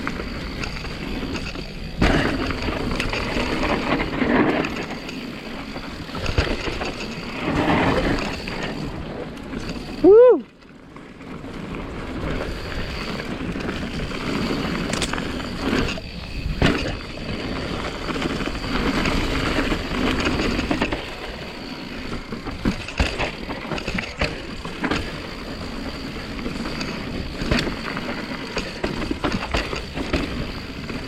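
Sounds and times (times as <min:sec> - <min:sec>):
bike knocks and rattles: 0:00.0 - 0:10.0, 0:12.3 - 0:31.0
bike tyre and wind noise: 0:00.0 - 0:31.0.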